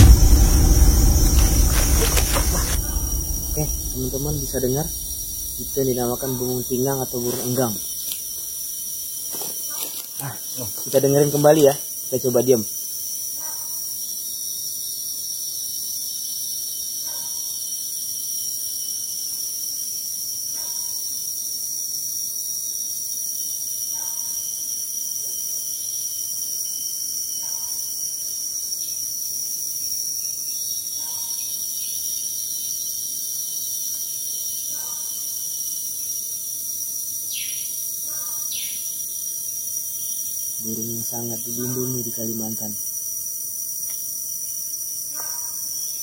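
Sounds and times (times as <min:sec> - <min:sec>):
forest insects droning: 0:00.0 - 0:46.0.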